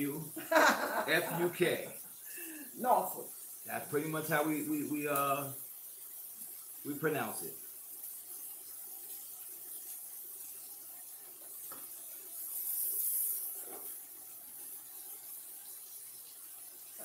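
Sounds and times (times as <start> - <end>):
scallops sizzling in a skillet: 0.0 - 17.0.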